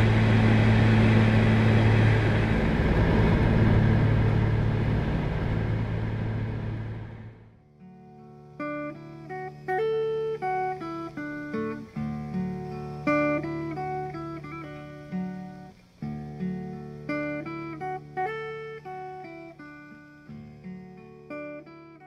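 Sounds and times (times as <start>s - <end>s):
guitar instrumental: 0.0s - 22.0s.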